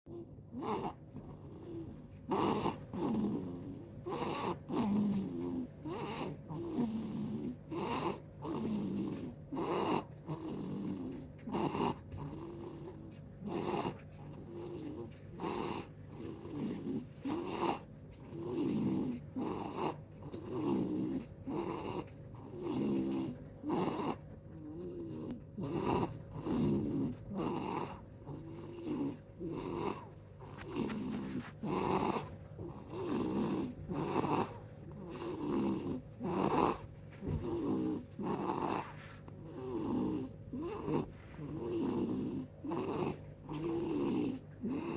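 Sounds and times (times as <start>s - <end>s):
baby snoring: 0.6s - 44.9s.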